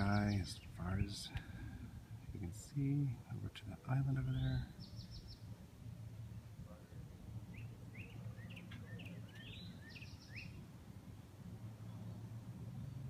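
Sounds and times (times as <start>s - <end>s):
low steady rumble: 0.0s - 13.0s
songbird singing: 0.0s - 13.0s.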